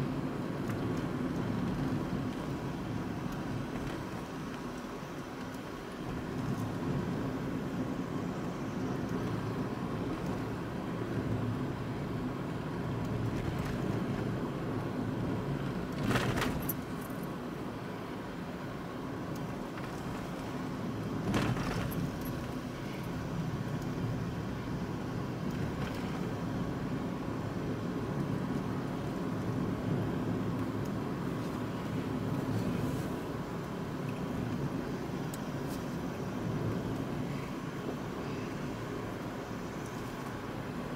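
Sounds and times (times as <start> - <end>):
tyres rumbling on road: 0.0 - 40.9.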